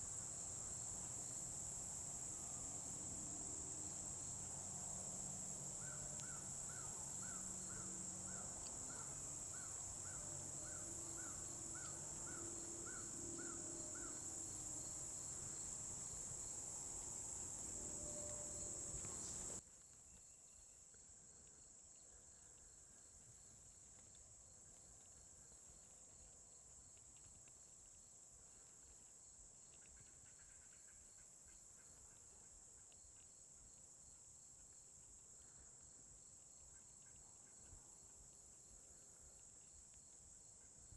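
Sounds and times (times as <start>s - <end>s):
crickets chirping: 0.0s - 40.9s
insect drone: 0.0s - 40.9s.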